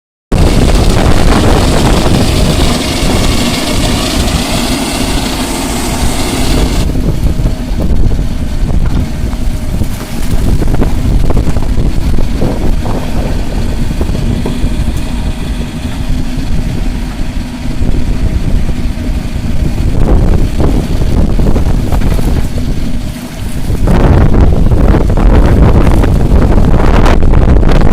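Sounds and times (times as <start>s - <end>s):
diesel engine running: 0.3s - 27.9s.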